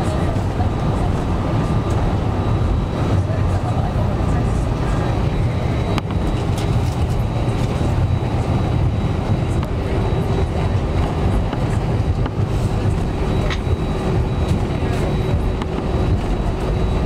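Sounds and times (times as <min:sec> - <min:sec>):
aircraft cabin low rumble: 0:00.0 - 0:17.0.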